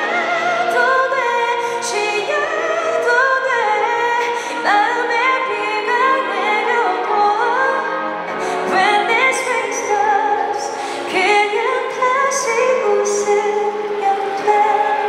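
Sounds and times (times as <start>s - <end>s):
symphony orchestra playing: 0.0s - 15.0s
woman singing: 0.0s - 15.0s.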